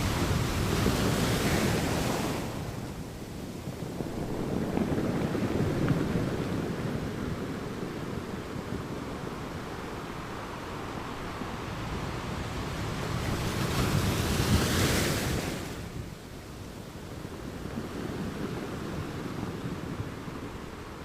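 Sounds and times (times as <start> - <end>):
ocean waves on shore: 0.0 - 21.0
wind on microphone: 0.0 - 21.0.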